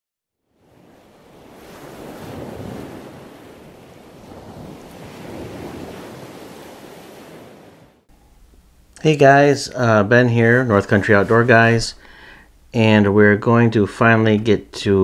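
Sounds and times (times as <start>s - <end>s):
sea surf washing ashore: 0.5s - 15.0s.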